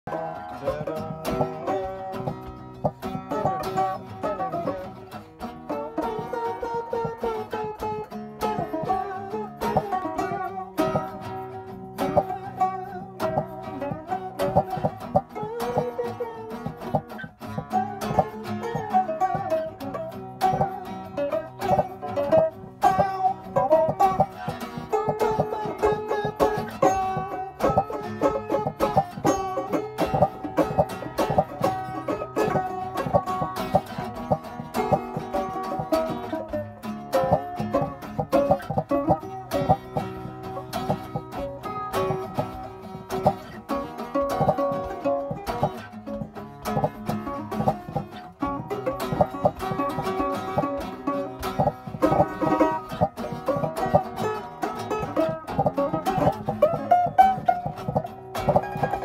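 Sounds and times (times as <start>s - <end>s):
acoustic guitar playing: 0.0s - 59.0s
banjo picking: 0.0s - 59.0s.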